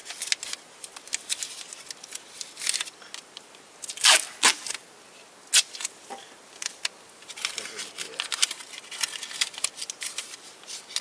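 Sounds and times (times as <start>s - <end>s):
duct tape ripping: 0.0s - 3.2s, 3.8s - 4.8s, 5.5s - 6.0s, 6.6s - 11.0s
tape crackling and rustling: 0.0s - 11.0s.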